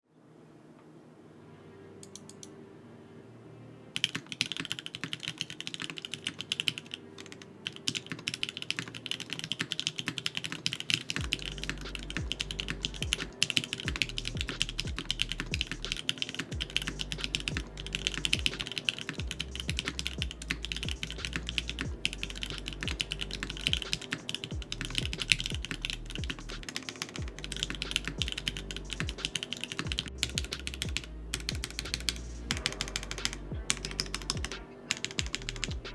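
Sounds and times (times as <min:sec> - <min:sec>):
fast typing on mechanical keyboard: 0:04.0 - 0:35.9.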